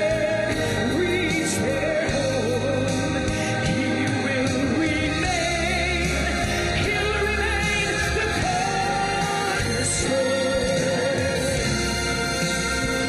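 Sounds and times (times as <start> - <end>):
instrumental accompaniment: 0.0 - 13.0
person singing gospel: 0.0 - 13.0.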